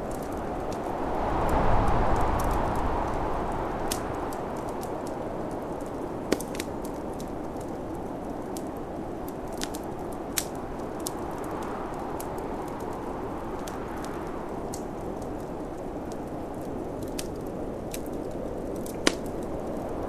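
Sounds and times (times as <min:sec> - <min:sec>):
rushing snowstorm wind: 0:00.0 - 0:20.0
wood fire crackling and popping: 0:00.0 - 0:20.0.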